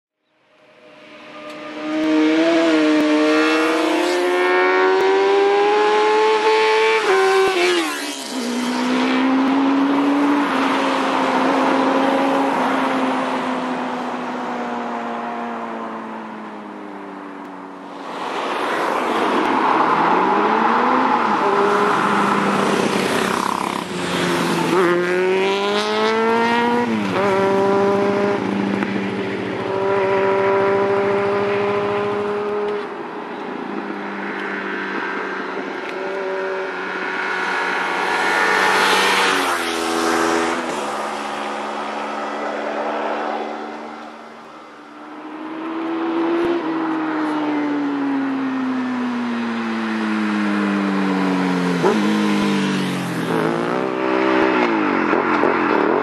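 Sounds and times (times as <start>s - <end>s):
motorcycles revving past: 1.1s - 14.0s, 17.9s - 32.9s, 35.5s - 56.0s.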